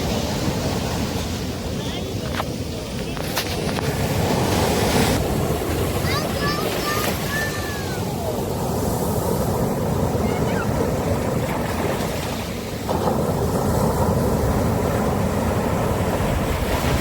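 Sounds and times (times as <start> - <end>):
sea surf washing onto beach: 0.0 - 17.0.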